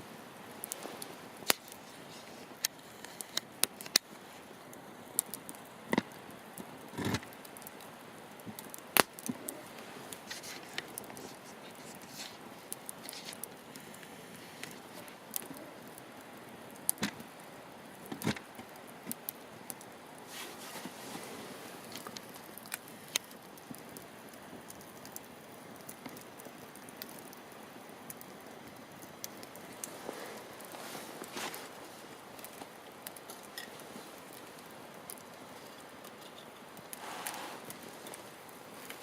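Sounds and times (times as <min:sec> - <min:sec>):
campfire hissing: 0:00.0 - 0:39.0
fire crackling and popping: 0:00.0 - 0:39.0.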